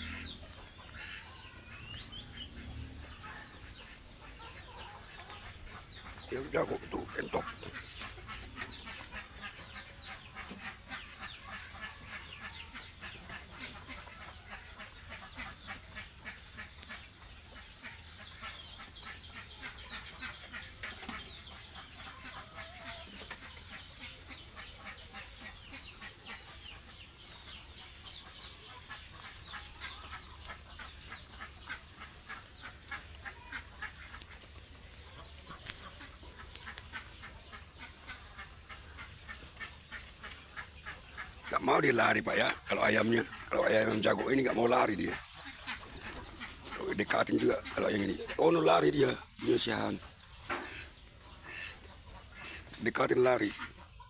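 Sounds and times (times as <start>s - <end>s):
chickens and ducks calling: 0.0s - 54.0s.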